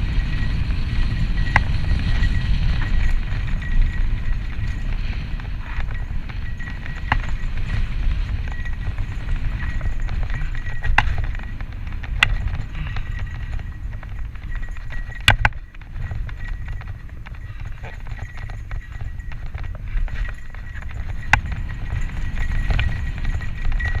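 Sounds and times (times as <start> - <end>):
bike rattling clacks: 0.0 - 24.0
wind rushing on microphone: 0.0 - 24.0.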